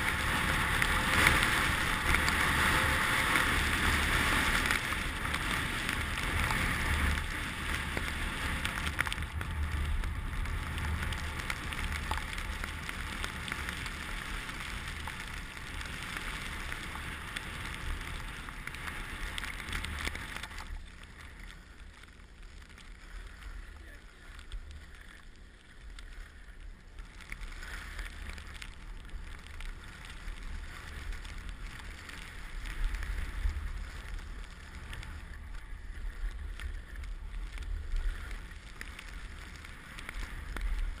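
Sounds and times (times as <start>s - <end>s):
skis sliding on snow: 0.0s - 41.0s.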